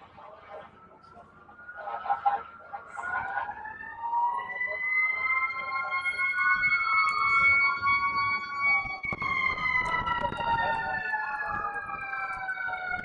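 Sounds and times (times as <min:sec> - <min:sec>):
fire truck sirens wailing: 0:00.0 - 0:13.0.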